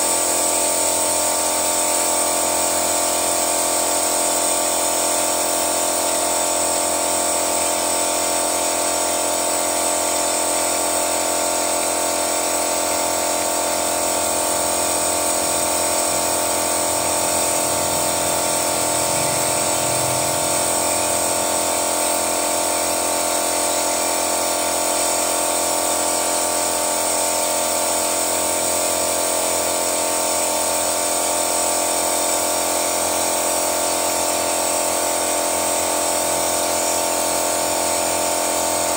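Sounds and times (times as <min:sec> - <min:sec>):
pump humming with high whine: 0:00.0 - 0:38.9.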